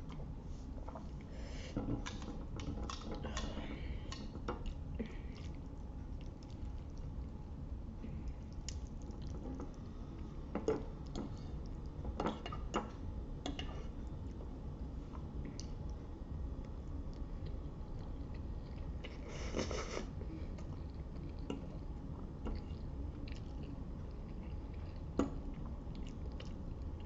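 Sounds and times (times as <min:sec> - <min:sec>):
wet chewing of spaghetti: 0:00.0 - 0:27.0.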